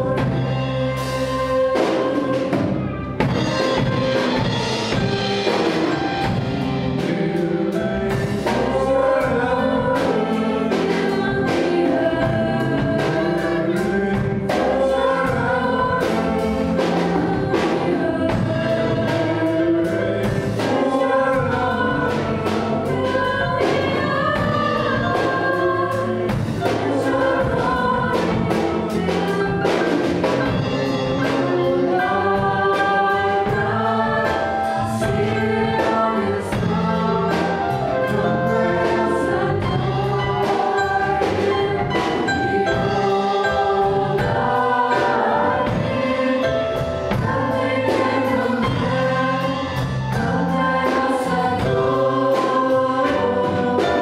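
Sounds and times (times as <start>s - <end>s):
drum kit steady beat: 0.0s - 54.0s
electric bass: 0.0s - 54.0s
group singing in parts: 0.0s - 54.0s
piano: 0.0s - 54.0s.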